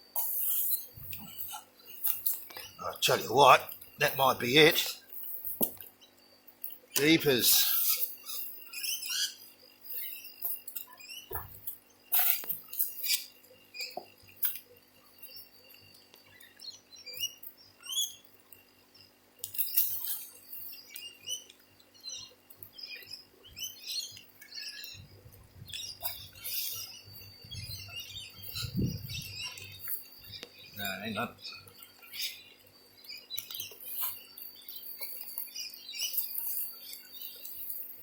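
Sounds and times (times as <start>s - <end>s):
small birds chirping: 0.2s - 38.0s.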